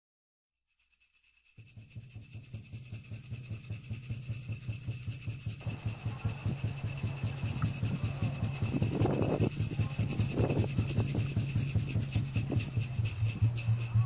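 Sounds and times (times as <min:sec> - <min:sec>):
rhythmic rasping: 0:00.8 - 0:14.0
low pulsing hum: 0:01.6 - 0:14.0.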